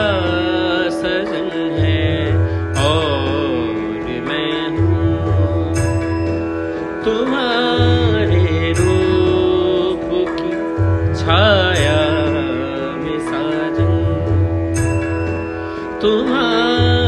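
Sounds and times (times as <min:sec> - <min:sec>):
music with drone and wavering melody: 0:00.0 - 0:17.0.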